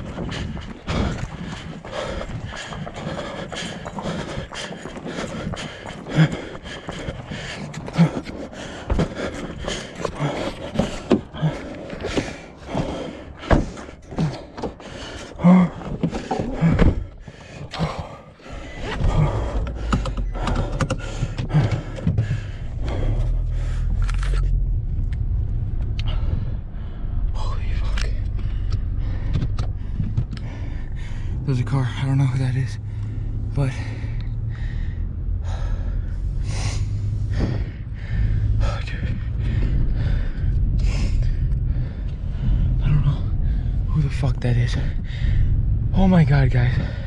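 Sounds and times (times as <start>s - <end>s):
hurried footsteps: 0.0s - 24.5s, 27.4s - 35.7s, 36.8s - 45.0s
steady low rumble: 0.0s - 47.0s.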